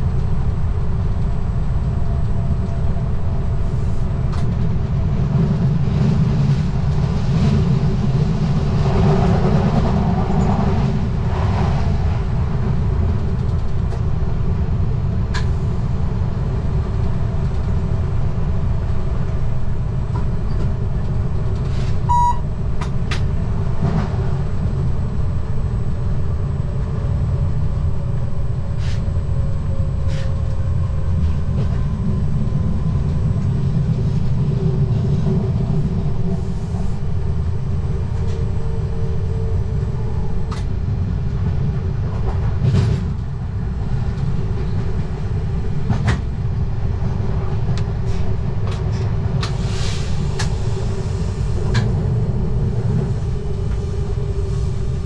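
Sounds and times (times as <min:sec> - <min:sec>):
electric train rumbling on track: 0:00.0 - 0:55.0.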